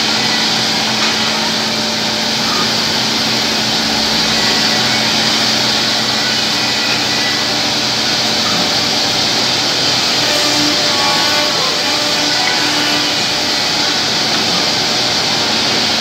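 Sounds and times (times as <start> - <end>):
low machine hum: 0.0 - 16.0
mortising machine running: 0.0 - 16.0.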